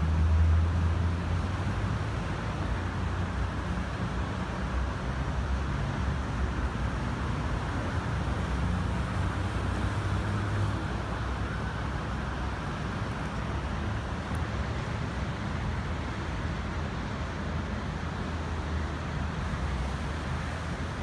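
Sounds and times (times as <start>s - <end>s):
outdoor background rumble: 0.0s - 21.0s.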